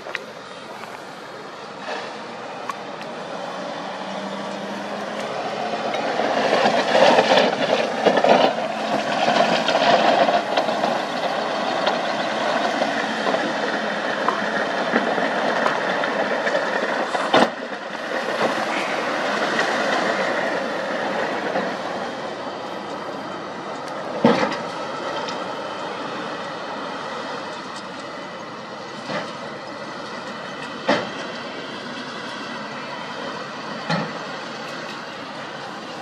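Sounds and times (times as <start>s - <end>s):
heavy diesel machinery running: 0.0s - 36.0s.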